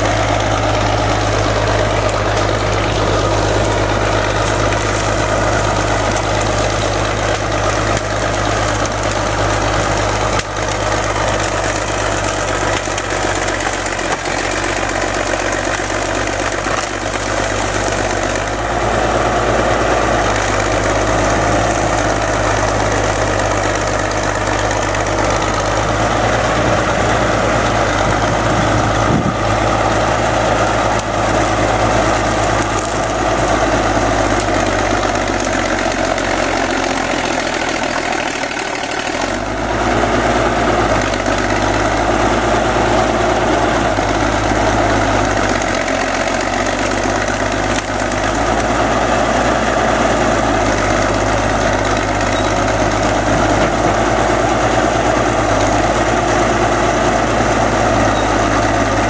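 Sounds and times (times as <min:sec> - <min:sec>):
bulldozer diesel engine droning: 0:00.0 - 0:59.0
dozer pushing into trees and brush: 0:00.0 - 0:59.0.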